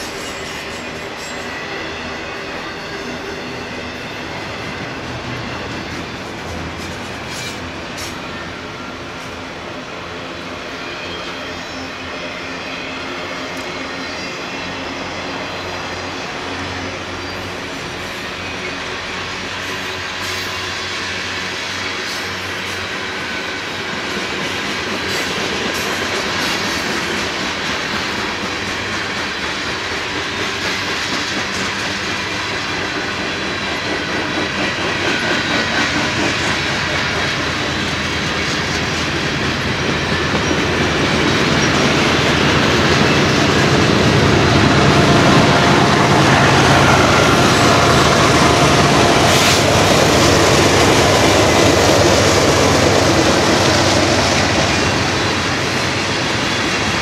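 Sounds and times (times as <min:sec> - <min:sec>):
train wheels clacking over rails: 0:00.0 - 0:57.0.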